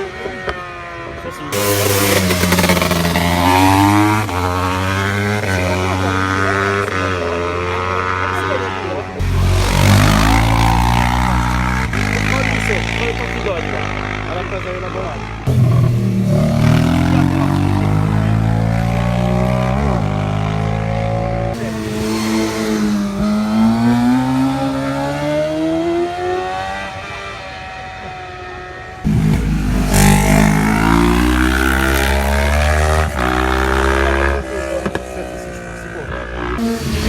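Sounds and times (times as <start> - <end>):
racing motorcycles accelerating: 0.0 - 37.0.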